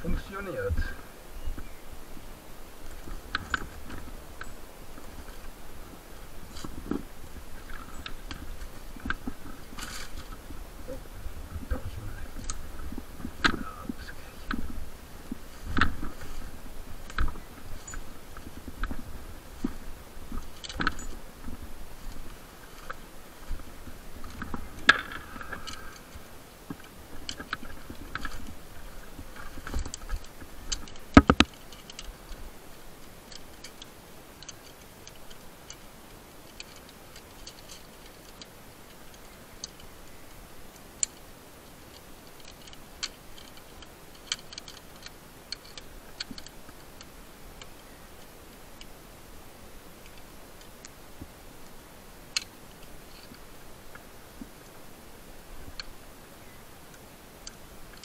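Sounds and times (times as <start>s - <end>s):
climbing hardware clicking on rope: 0.1s - 58.0s.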